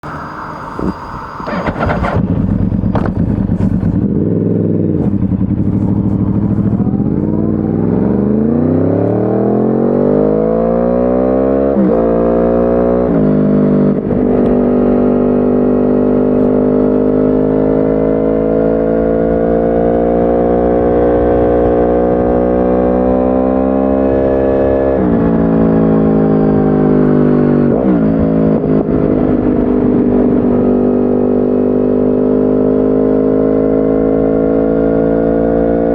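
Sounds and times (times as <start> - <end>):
motorcycle engine revving through gears: 0.0 - 35.9.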